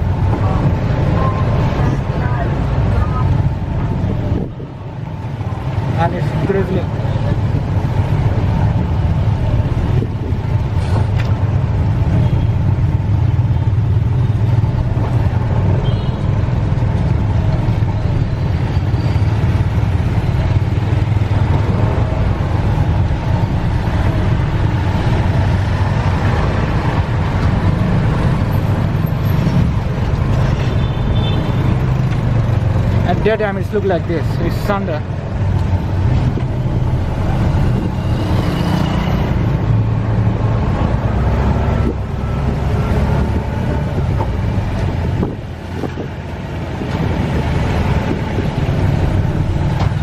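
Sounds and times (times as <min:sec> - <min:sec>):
car engines rumbling: 0:00.0 - 0:50.0
tyre noise on road: 0:00.0 - 0:50.0.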